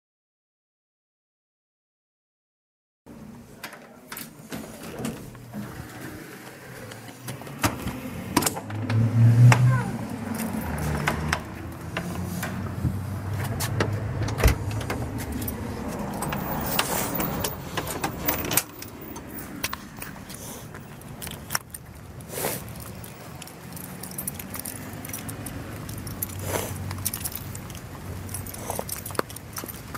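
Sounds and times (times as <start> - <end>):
outdoor background noise: 3.1 - 29.9.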